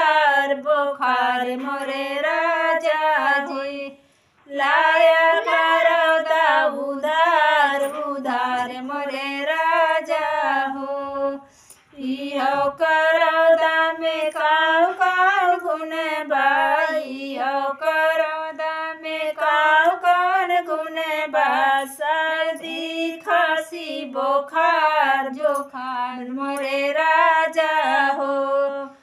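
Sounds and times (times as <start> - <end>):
woman singing folk song: 0.0 - 29.0.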